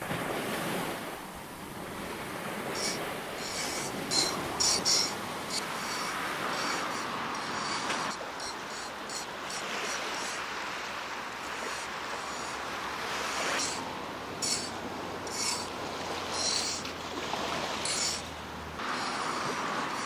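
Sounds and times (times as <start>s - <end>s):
surf-like noise: 0.0s - 20.0s
sand scraping: 2.6s - 17.0s, 17.8s - 20.0s.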